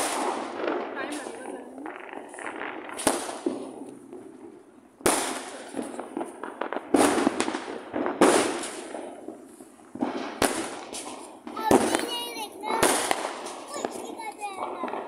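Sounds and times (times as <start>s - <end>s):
firecracker bangs: 0.0s - 15.0s.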